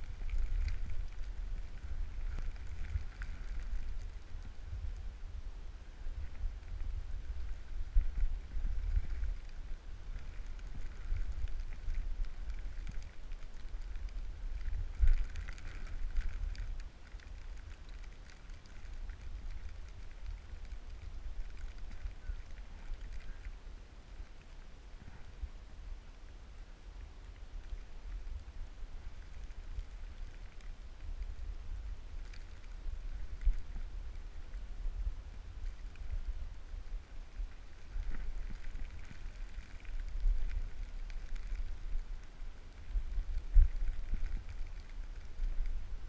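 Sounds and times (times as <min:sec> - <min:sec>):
faint ticks: 0:00.0 - 0:05.1, 0:05.8 - 0:46.0
wind buffeting microphone: 0:00.0 - 0:23.6, 0:27.7 - 0:46.0.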